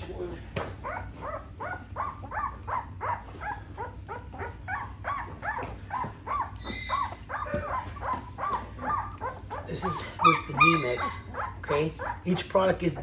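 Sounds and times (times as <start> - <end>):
puppies whining and yelping: 0.8 - 12.5.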